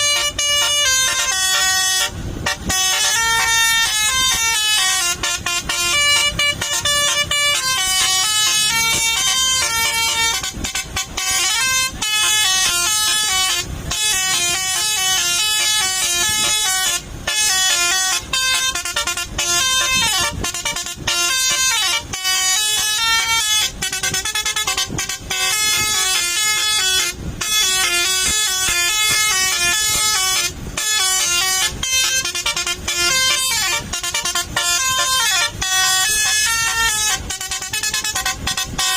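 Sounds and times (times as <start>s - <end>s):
musical air horn playing tunes: 0.0s - 38.9s.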